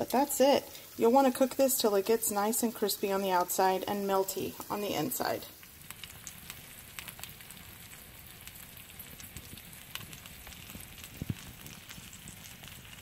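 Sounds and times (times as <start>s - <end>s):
food sizzling on a griddle: 0.0s - 13.0s
fat crackling: 1.0s - 13.0s.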